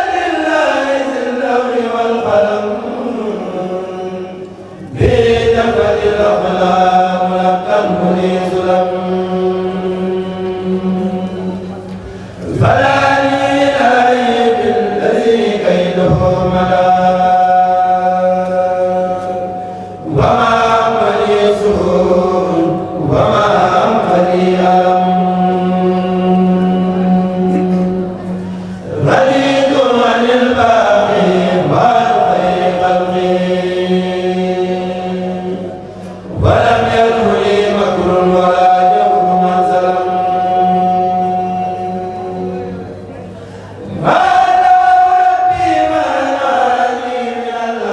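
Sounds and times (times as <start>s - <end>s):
group chanting a cappella: 0.0s - 47.9s.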